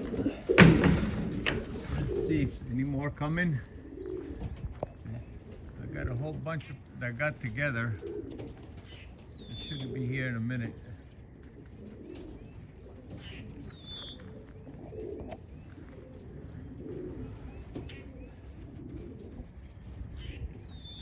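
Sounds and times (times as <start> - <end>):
pigeons cooing: 0.0 - 21.0
small birds chirping: 1.6 - 21.0.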